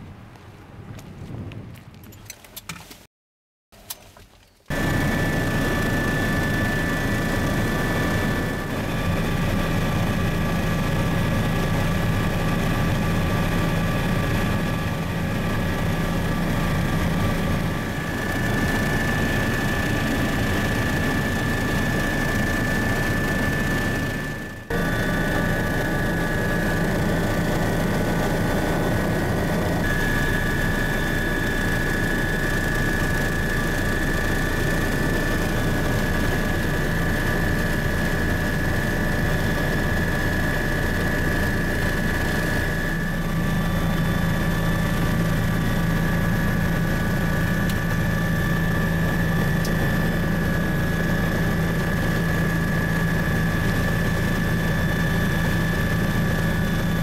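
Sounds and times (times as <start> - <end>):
helicopter engine and rotors drone: 4.7 - 57.0
high constant whine: 4.7 - 57.0.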